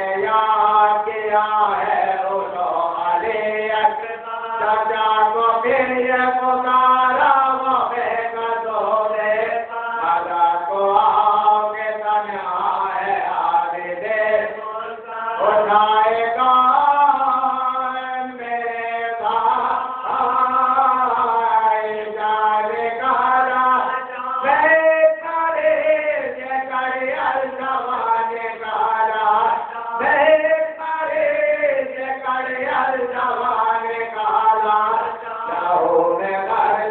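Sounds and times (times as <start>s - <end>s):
man chanting: 0.0s - 36.9s.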